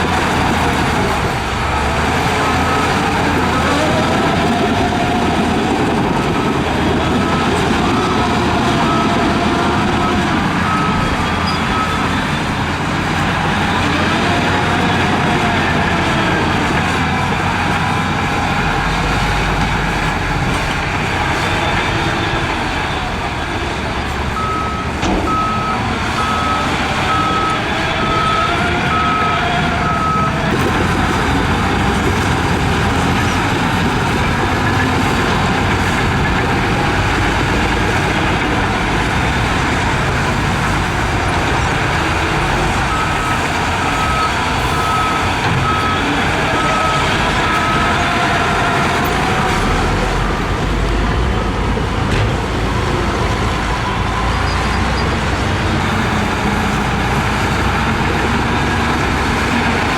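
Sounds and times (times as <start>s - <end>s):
diesel machinery engine revving: 0.0s - 59.9s
reversing alarm beeping: 0.1s - 23.4s, 24.3s - 59.9s.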